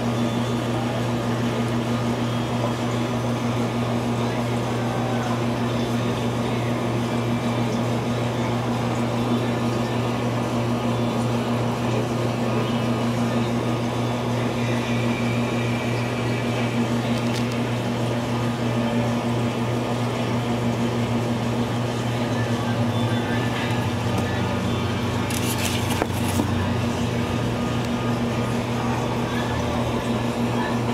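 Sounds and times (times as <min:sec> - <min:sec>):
faint higher hum: 0:00.0 - 0:30.9
low electrical hum: 0:00.0 - 0:30.9.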